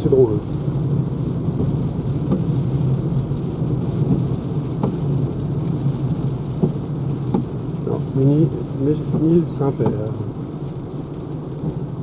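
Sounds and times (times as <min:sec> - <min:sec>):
rain on car: 0:00.0 - 0:12.0
tyres rumbling on wet road: 0:00.0 - 0:12.0.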